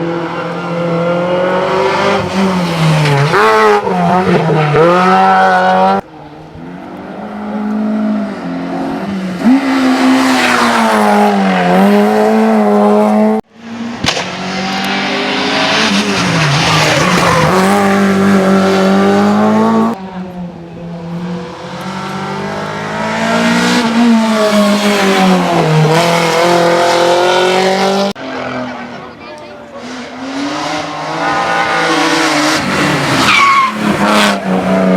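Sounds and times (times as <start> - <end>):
race car engines revving: 0.0 - 34.9.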